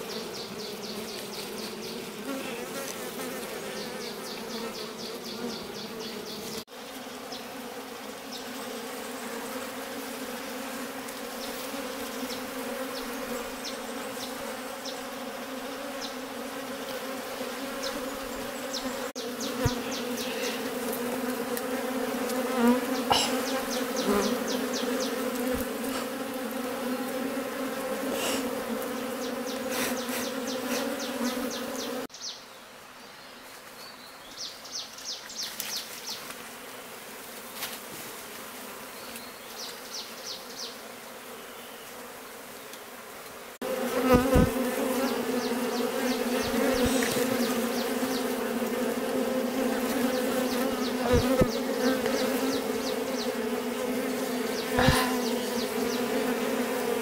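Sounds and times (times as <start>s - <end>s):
honey bees buzzing: 0.0s - 33.0s, 34.4s - 57.0s.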